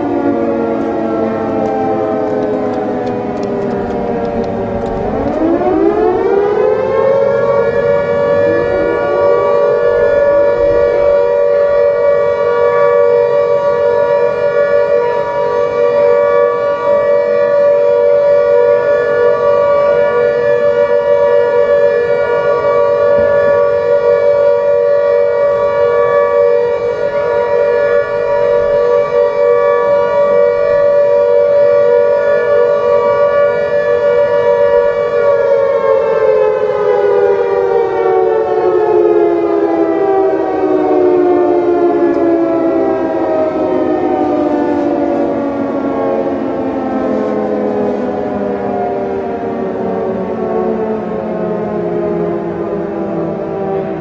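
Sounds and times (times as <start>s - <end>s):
siren wailing: 0.0s - 54.0s.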